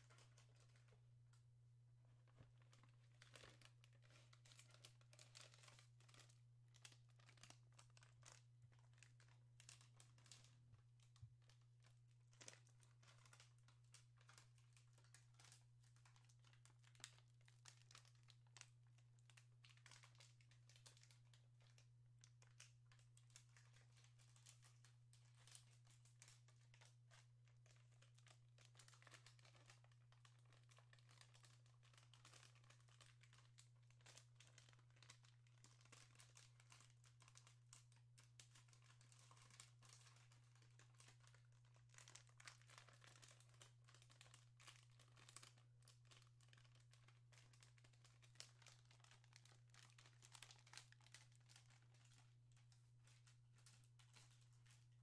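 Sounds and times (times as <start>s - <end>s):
plastic bag crinkling: 0.0s - 1.2s, 2.1s - 55.0s.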